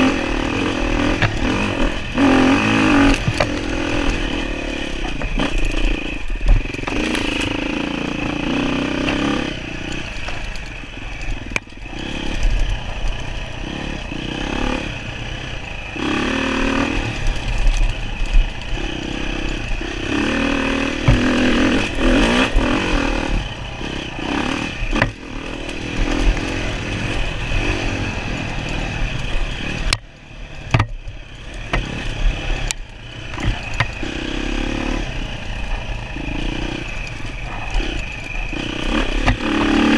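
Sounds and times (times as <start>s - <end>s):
bike rattling and knocking: 0.0s - 39.9s
dirt bike engine revving: 0.0s - 39.9s.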